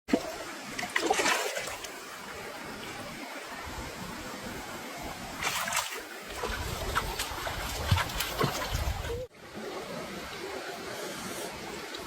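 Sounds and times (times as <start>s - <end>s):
water rushing and splashing: 0.1s - 12.0s.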